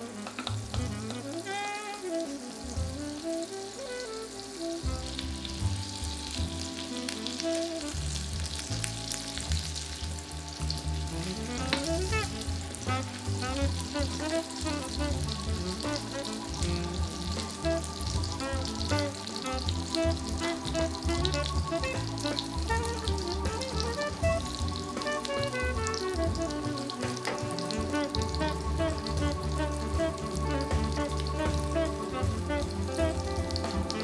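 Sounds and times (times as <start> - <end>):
food sizzling in butter: 0.0 - 34.0
light background music: 0.0 - 34.0.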